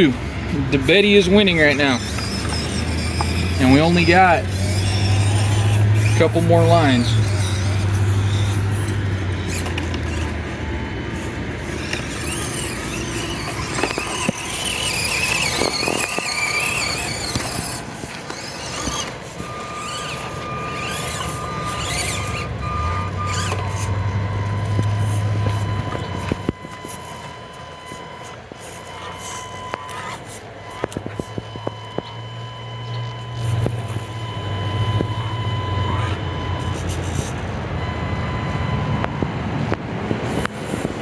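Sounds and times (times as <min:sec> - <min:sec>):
small electric motor whining: 0:00.0 - 0:41.0.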